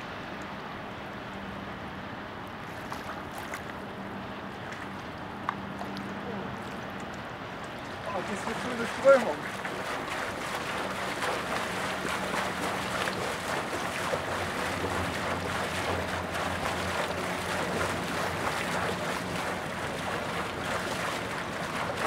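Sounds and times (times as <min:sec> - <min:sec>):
barge engine drone: 0:00.0 - 0:22.0
swimmer kicking water: 0:02.6 - 0:22.0.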